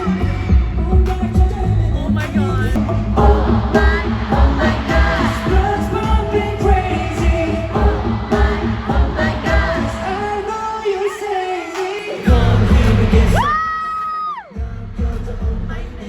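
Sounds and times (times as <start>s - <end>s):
heavy bass beat: 0.0s - 10.6s, 12.3s - 13.6s, 14.6s - 16.0s
person singing pop melody: 0.0s - 16.0s.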